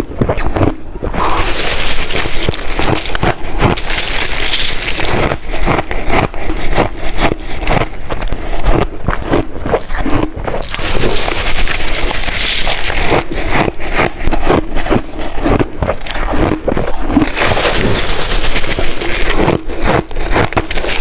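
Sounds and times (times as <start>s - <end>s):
shaved ice crunching being chewed: 0.0s - 21.0s.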